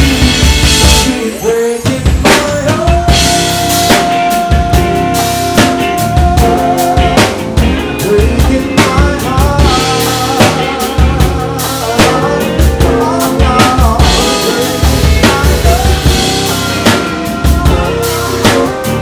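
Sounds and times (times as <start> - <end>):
bass guitar: 0.0 - 19.0
drum kit beat: 0.0 - 19.0
melodic line: 0.0 - 19.0.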